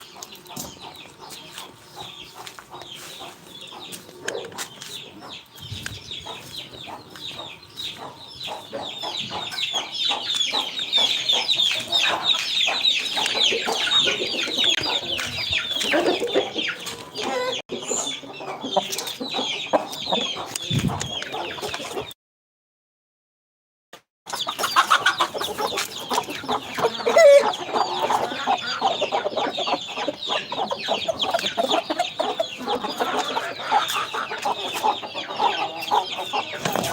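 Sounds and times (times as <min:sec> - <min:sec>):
chickens clucking and chirping: 0:00.0 - 0:22.2, 0:24.3 - 0:36.9.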